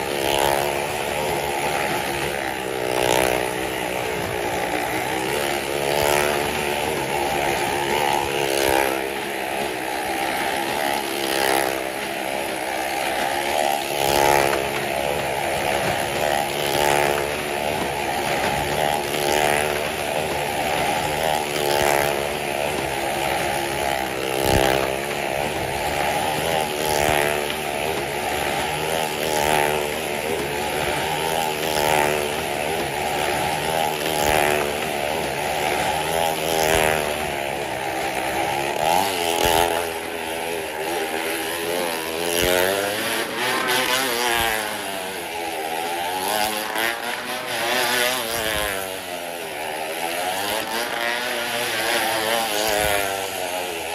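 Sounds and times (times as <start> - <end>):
motorcycle engines revving past: 0.0 - 53.9.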